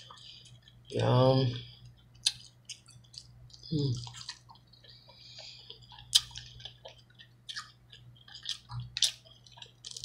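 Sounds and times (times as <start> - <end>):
faint steady hum: 0.0 - 10.0
wet chewing and lip-smacking: 0.0 - 10.0.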